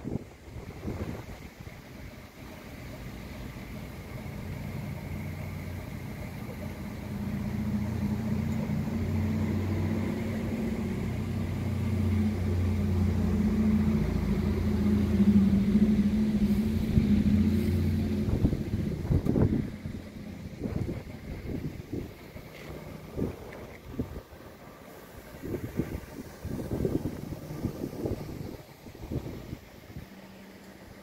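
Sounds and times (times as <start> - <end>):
wind buffeting microphone: 0.0 - 2.0, 7.0 - 30.1
vehicle engine running: 0.0 - 31.0.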